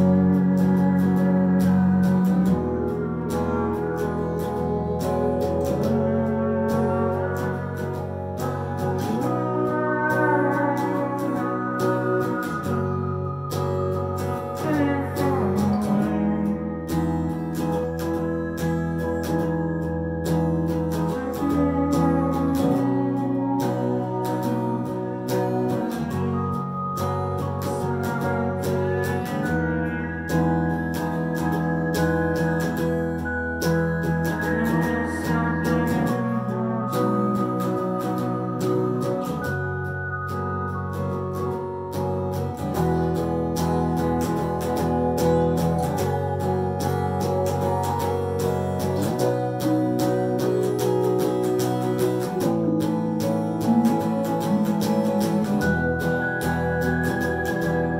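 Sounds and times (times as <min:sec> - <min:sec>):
bass line: 0:00.0 - 0:57.9
electric guitar picking notes: 0:00.0 - 0:57.9
organ-like keyboard chords: 0:00.0 - 0:57.9.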